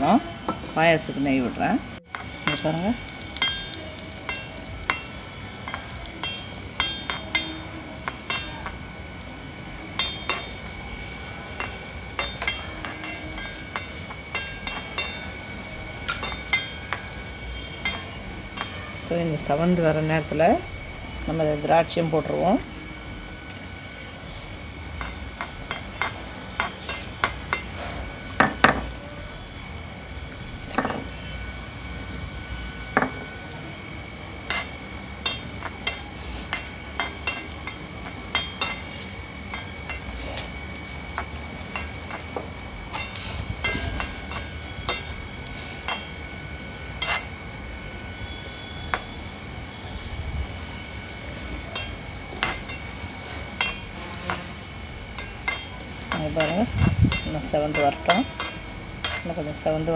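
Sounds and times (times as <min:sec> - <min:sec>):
nuts sizzling in oil: 0:00.0 - 0:59.9.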